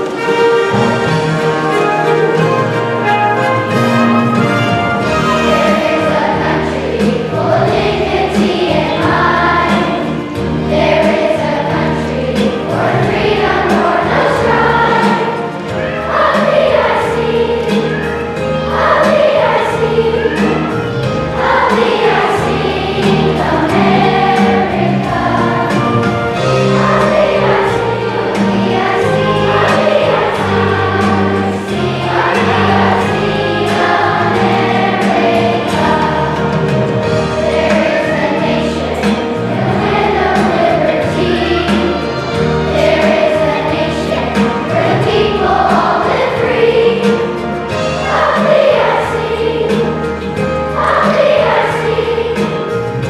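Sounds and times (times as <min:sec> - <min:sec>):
children's choir singing: 0:00.0 - 0:53.0
low accompaniment notes: 0:00.0 - 0:53.0.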